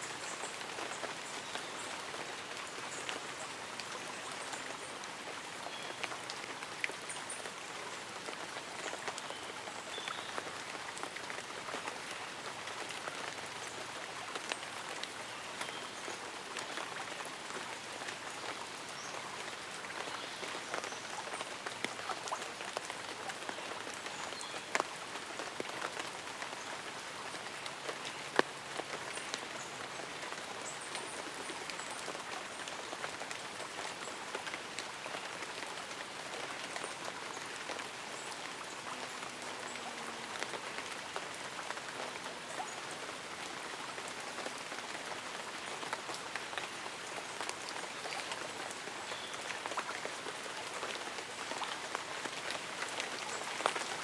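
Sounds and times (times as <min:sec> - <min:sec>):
light rain on leaves and umbrella: 0:00.0 - 0:54.0.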